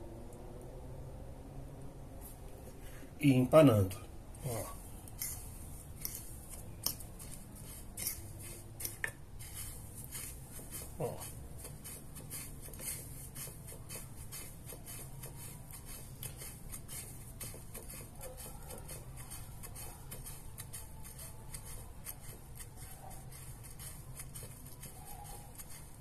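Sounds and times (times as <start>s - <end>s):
breadcrumbs crackling: 4.4s - 26.0s.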